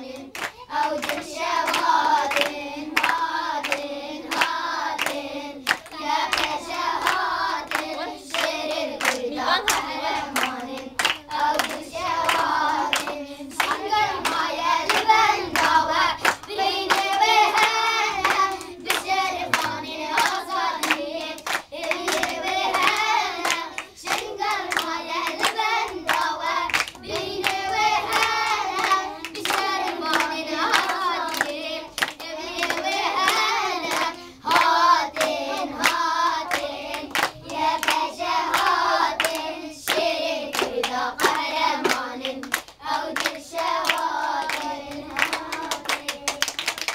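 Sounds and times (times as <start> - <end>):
children singing: 0.0 - 46.6
hands clapping in rhythm: 0.0 - 46.9.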